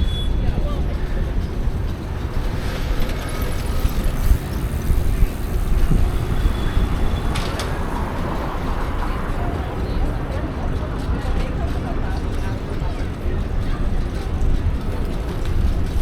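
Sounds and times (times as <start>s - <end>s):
passing traffic: 0.0s - 16.0s
wind rumbling on microphone: 0.0s - 16.0s.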